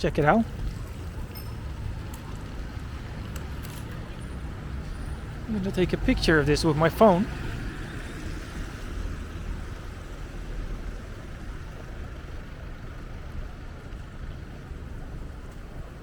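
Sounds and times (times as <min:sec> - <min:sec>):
low rumble of road traffic: 0:00.0 - 0:16.0.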